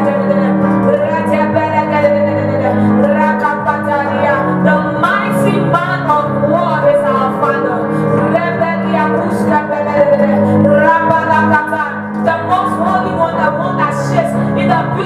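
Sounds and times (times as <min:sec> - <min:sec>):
held keyboard chords: 0:00.0 - 0:15.0
person singing: 0:00.0 - 0:15.0.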